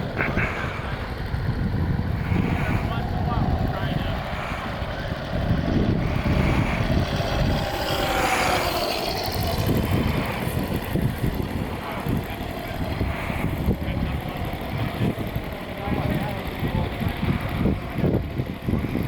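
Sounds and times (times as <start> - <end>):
model airplane motor: 0.0 - 19.0
wind buffeting microphone: 0.0 - 19.0.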